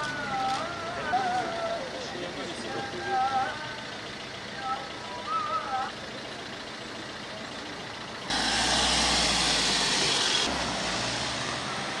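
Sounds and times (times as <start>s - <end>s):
tyre and road noise: 0.0s - 12.0s
van engine running: 0.0s - 12.0s.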